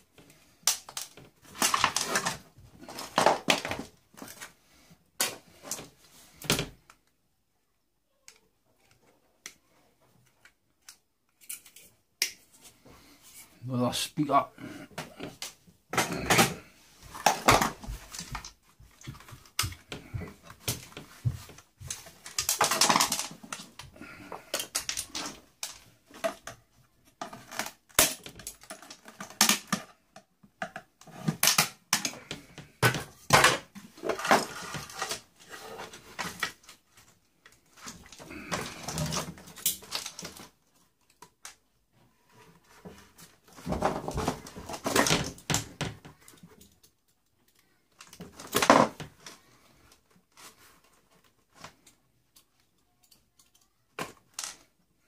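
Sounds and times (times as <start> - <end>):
plastic parts clicking and rattling: 0.0 - 4.6, 10.2 - 12.5, 15.0 - 55.0.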